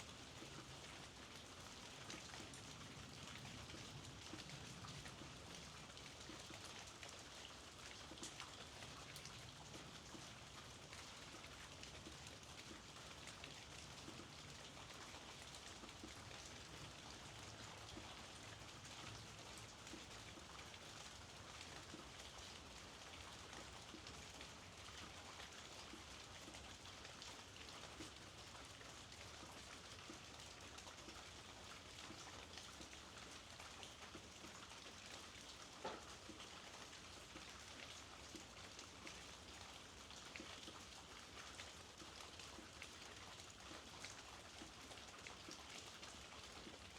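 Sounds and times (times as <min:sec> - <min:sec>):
faint rain drops tapping: 0:00.1 - 0:46.9.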